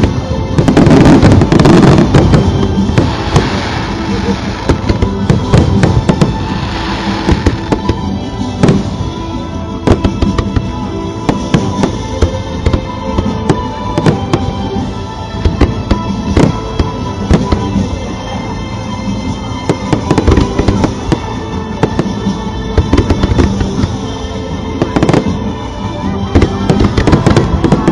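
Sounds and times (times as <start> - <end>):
fireworks bursting with loud bangs: 0.0 - 18.2, 19.0 - 25.5, 26.1 - 27.9
music playing: 0.0 - 27.9.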